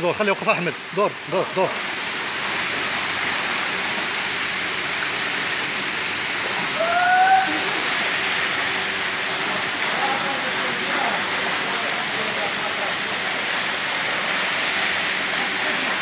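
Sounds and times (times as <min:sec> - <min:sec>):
water splashing from thrashing fish: 0:00.0 - 0:16.0.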